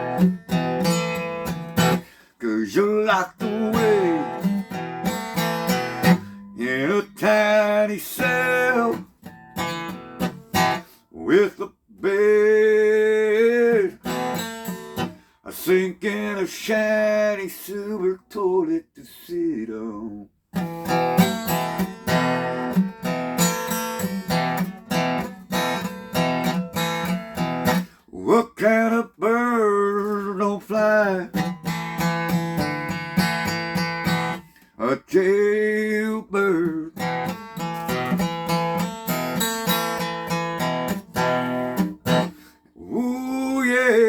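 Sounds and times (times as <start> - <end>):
acoustic guitar strumming: 0.0 - 18.0, 20.5 - 28.0, 28.6 - 34.7, 35.3 - 44.0.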